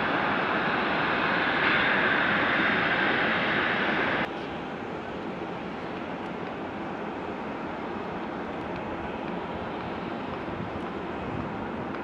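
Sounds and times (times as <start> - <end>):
distant jet engine rush: 0.0 - 12.0.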